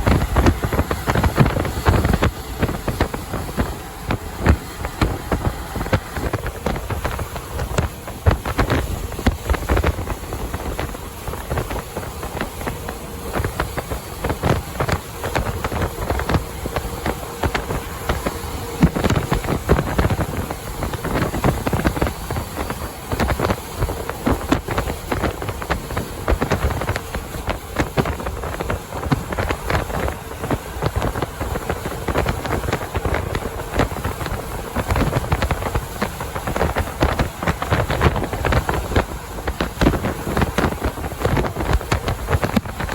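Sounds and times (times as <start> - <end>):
truck road noise: 0.0 - 42.9
wind buffeting microphone: 0.0 - 42.9.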